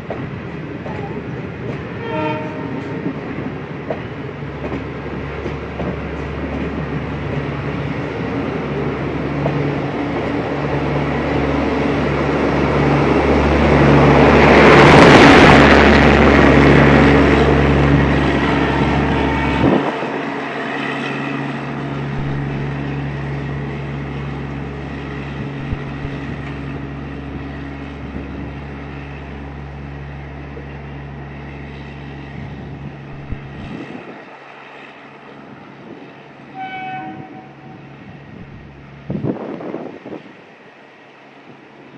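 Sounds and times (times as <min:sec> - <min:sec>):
train engine hum: 0:00.0 - 0:41.9
train wheel and rail noise: 0:00.0 - 0:41.9.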